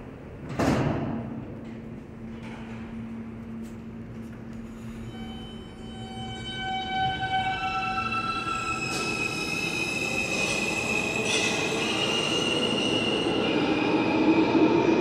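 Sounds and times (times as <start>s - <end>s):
subway train motor whine: 1.4s - 15.0s.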